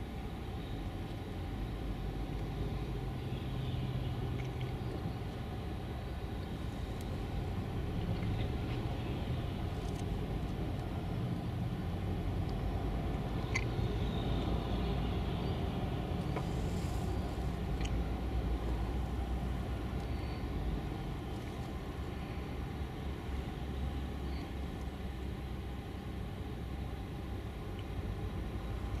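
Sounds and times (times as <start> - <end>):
truck engine and tyre rumble: 0.0 - 29.0.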